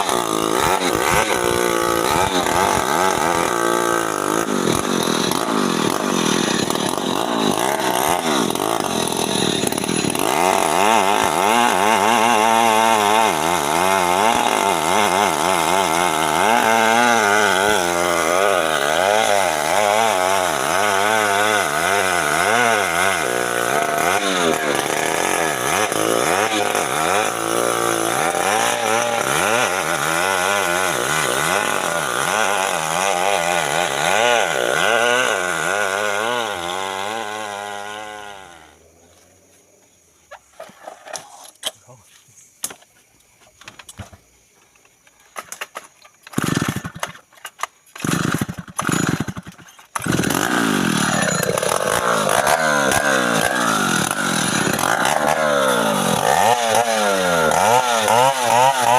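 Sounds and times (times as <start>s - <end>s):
chainsaw cutting wood: 0.0s - 39.3s, 43.6s - 58.9s.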